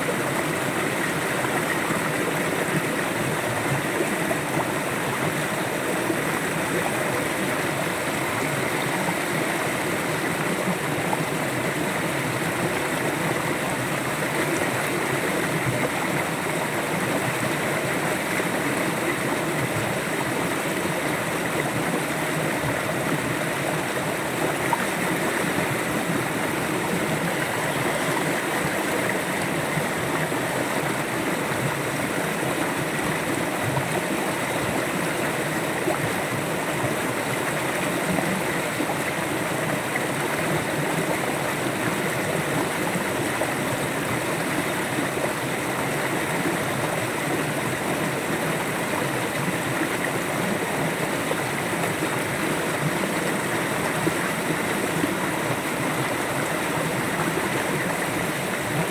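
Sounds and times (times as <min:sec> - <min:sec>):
river water flowing over rocks: 0:00.0 - 0:58.9.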